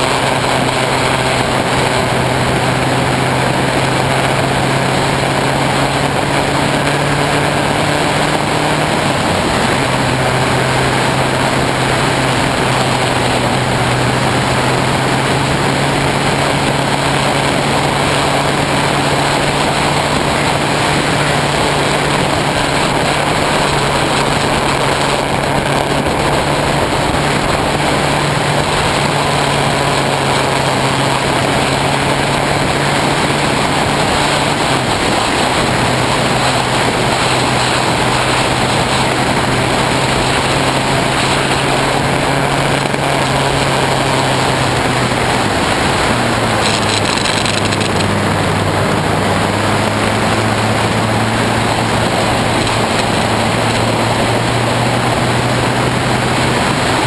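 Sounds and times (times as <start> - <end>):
motorcycle engine running: 0.0 - 57.0
wind and road rushing noise: 0.0 - 57.0.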